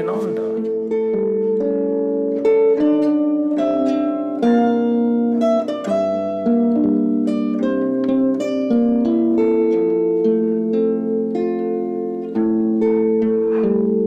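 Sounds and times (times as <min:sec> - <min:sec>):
zither plucked melody: 0:00.0 - 0:14.0.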